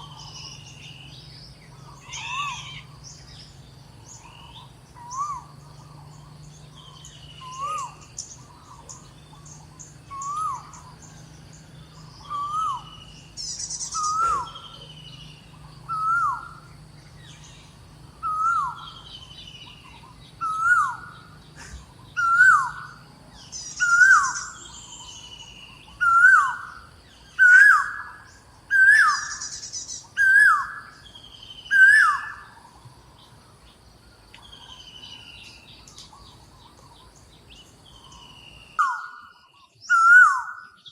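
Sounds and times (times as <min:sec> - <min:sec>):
other birds chirping: 0:00.0 - 0:40.9.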